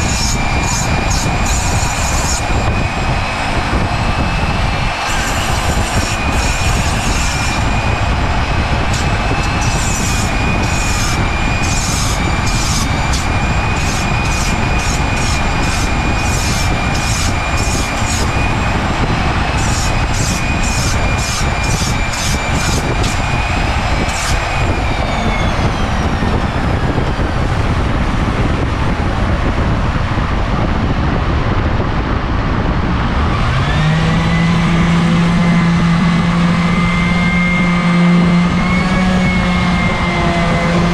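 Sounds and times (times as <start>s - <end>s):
orbital sander running: 0.0s - 26.0s, 33.4s - 40.9s
rotary tool whining: 0.0s - 27.7s, 33.3s - 40.9s.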